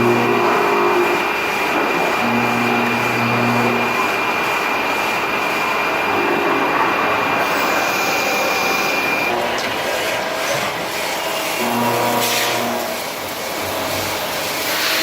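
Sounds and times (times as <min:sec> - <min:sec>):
machine tool whirring: 0:00.0 - 0:15.0.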